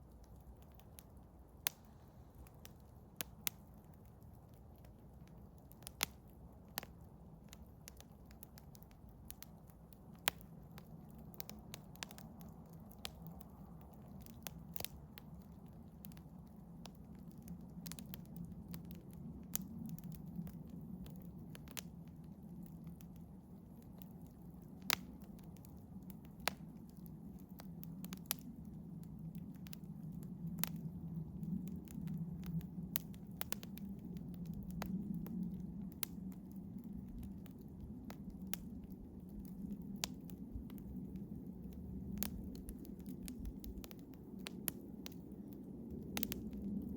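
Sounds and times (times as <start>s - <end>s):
campfire crackling: 0.0s - 46.9s
low rumble of flames: 0.0s - 46.9s
sharp pops from fire: 0.2s - 46.8s.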